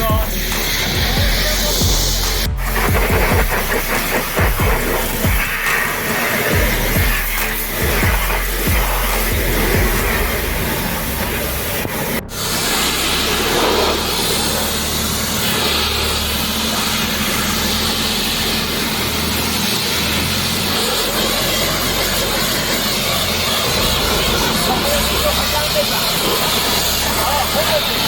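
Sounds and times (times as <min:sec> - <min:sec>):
pressure washer spraying water: 0:00.0 - 0:28.0.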